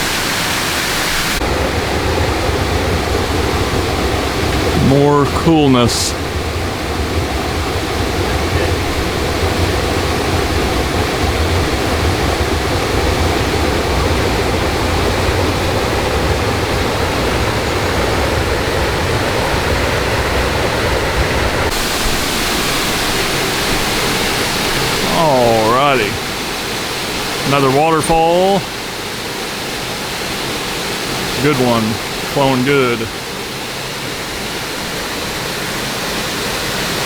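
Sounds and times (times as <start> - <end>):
waterfall splashing: 0.0 - 37.0.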